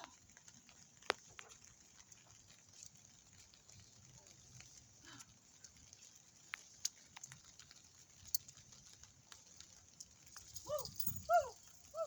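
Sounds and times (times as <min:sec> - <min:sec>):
light rain hiss: 0:00.0 - 0:12.0
sharp ticks of raindrops: 0:00.0 - 0:12.0.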